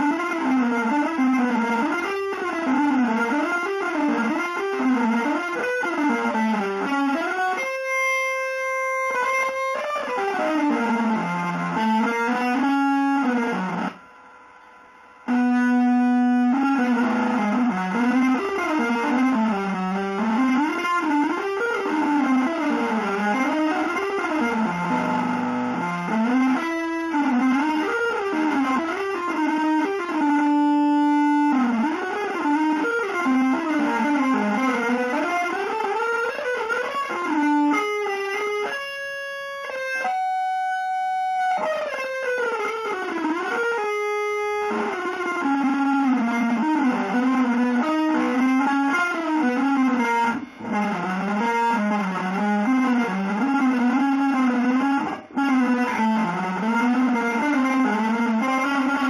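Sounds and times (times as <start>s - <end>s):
electric guitar solo: 0.0s - 59.0s.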